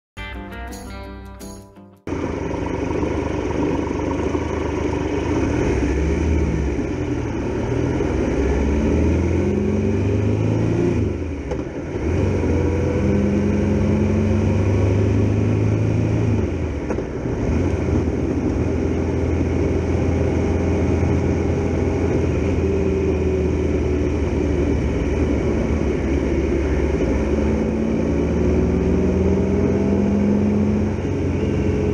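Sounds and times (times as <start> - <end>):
motorcycle engine revving: 2.1 - 31.9.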